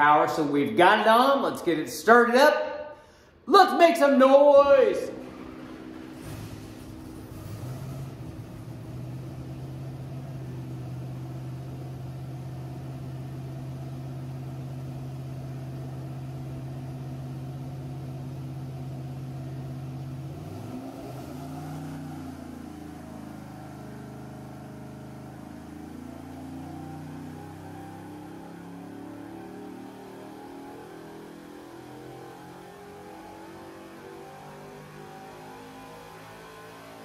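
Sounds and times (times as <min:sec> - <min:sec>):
engine running on dyno: 0:05.1 - 0:37.0.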